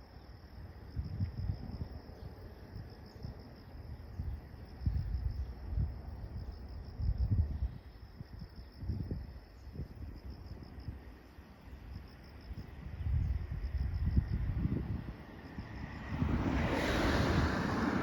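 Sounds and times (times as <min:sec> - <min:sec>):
insects chirping in trills: 0:00.0 - 0:18.0.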